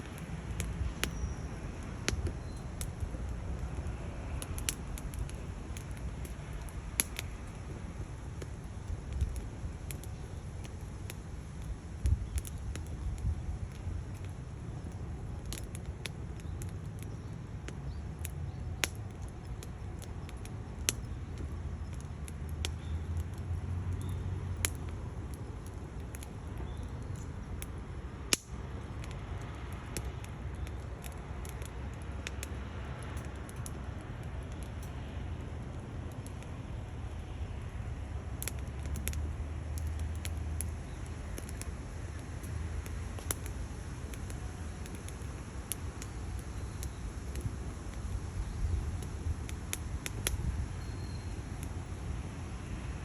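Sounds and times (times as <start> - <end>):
firewood crackling and popping: 0.0 - 53.0
low fire rumble: 0.0 - 53.0.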